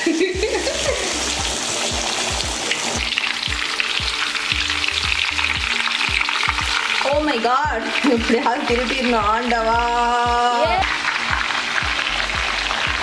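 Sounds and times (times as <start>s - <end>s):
fish deep-frying in oil: 0.4s - 13.0s.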